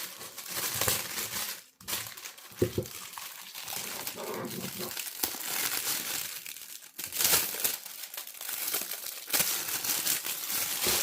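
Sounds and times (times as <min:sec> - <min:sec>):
plastic shrink wrap crinkling: 0:00.0 - 0:11.0.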